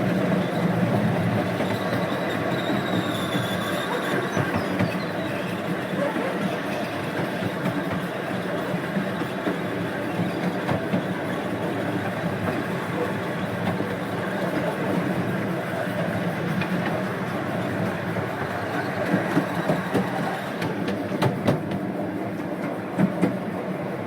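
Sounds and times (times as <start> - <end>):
steam train wheels on rails: 0.0 - 24.0.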